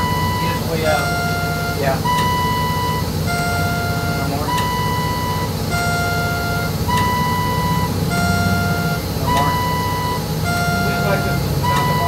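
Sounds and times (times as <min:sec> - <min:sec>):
two-tone electronic beeping: 0:00.0 - 0:12.0.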